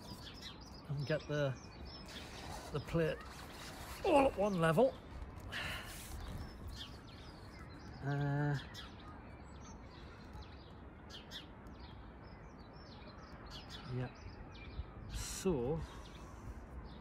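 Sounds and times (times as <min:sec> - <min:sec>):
outdoor background noise: 0:00.0 - 0:17.0
small birds chirping: 0:00.0 - 0:17.0.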